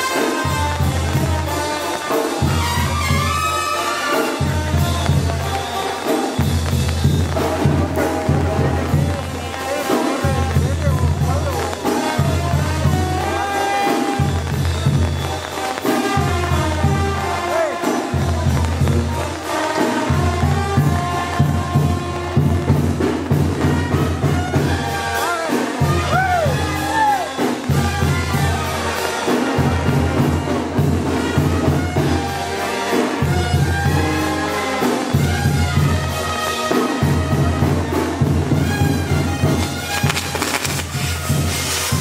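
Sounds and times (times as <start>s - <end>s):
brass band music: 0.0s - 42.0s
drums: 0.0s - 42.0s.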